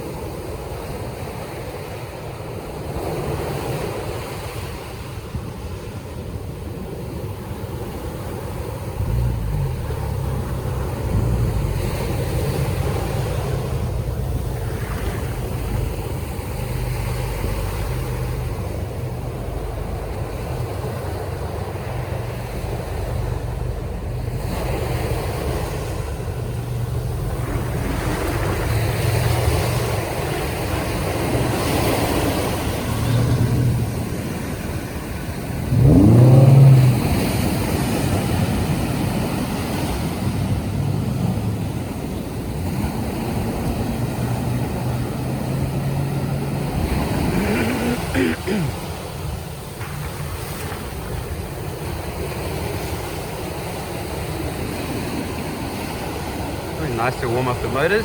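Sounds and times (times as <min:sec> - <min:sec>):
outboard motors running: 0:00.0 - 0:58.0
wind: 0:00.0 - 0:58.0
surf breaking: 0:07.8 - 0:58.0.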